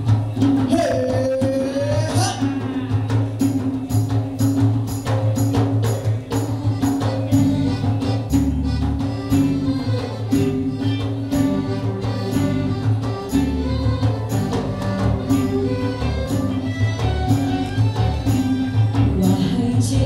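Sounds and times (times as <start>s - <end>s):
frame drum beats: 0.0s - 20.0s
instrumental melody line: 0.0s - 20.0s.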